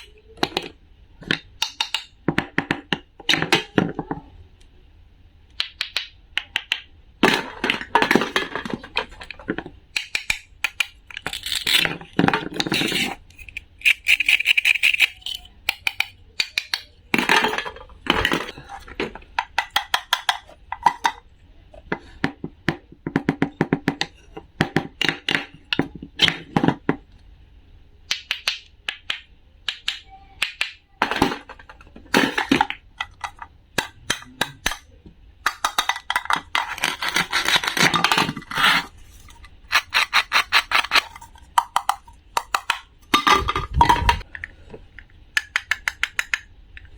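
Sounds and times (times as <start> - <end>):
clicks and taps of small hard objects: 0.0 - 4.2, 5.5 - 27.2, 28.1 - 46.9.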